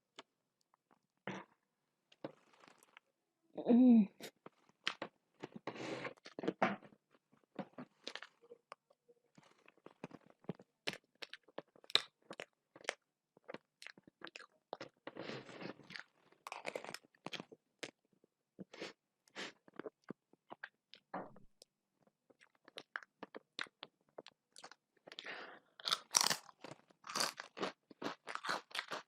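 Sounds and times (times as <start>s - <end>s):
person chewing and crunching food: 2.1s - 3.0s, 4.3s - 6.6s, 7.4s - 21.1s, 22.0s - 29.0s.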